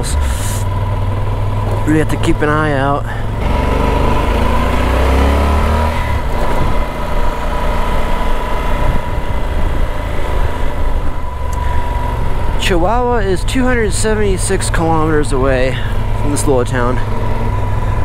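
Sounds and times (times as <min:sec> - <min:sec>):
motorcycle engine accelerating: 0:00.0 - 0:18.0
road and wind noise: 0:00.0 - 0:18.0.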